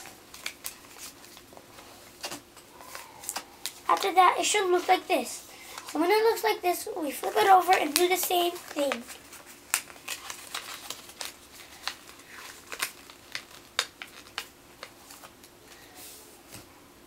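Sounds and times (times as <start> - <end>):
paper crinkling and rustling: 0.0 - 16.7.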